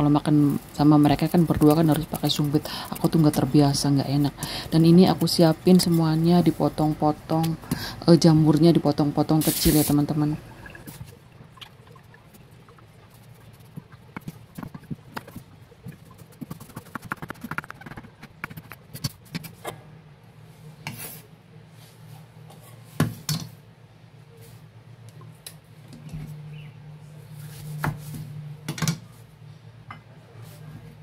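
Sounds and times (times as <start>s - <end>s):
low steady hum: 0.0s - 23.0s, 23.6s - 31.0s.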